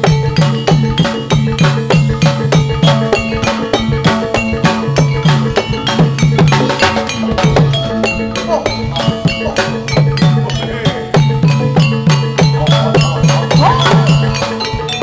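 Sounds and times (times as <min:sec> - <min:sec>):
drum beat: 0:00.0 - 0:15.0
struck metal percussion: 0:00.0 - 0:15.0.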